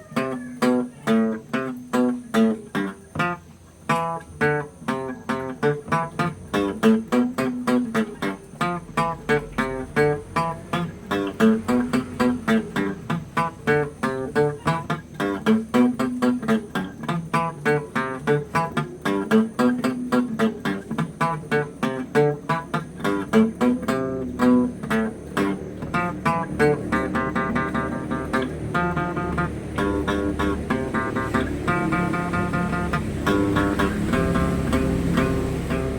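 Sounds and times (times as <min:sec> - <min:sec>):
electric guitar solo: 0:00.0 - 0:35.9.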